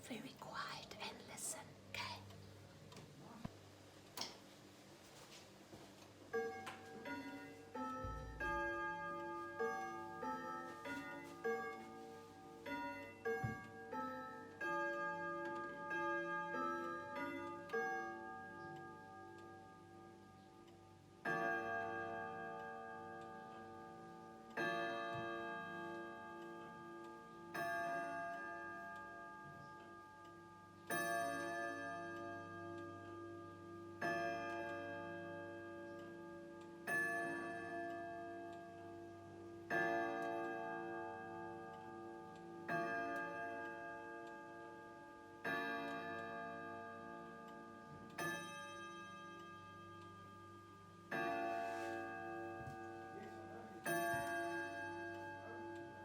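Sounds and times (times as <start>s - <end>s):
clock striking: 6.3s - 56.0s
clock ticking: 6.4s - 56.0s.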